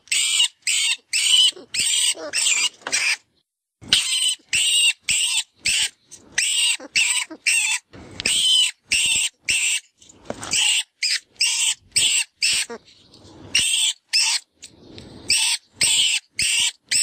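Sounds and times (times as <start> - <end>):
rodent distress squeals: 0.0 - 3.2, 3.9 - 9.8, 10.5 - 12.8, 13.5 - 14.5, 15.3 - 17.0.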